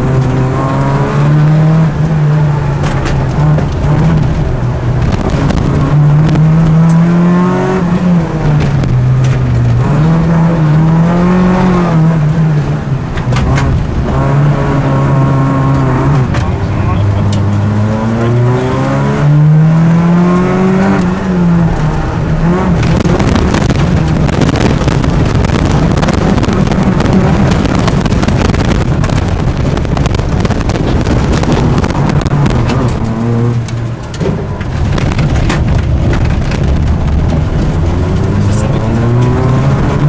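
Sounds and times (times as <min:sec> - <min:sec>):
car engine revving: 0:00.0 - 0:40.0
road noise on wet surface: 0:00.0 - 0:40.0.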